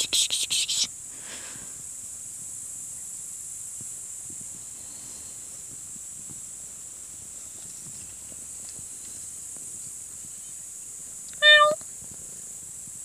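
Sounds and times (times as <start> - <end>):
insect chorus chirring: 0.0 - 13.0.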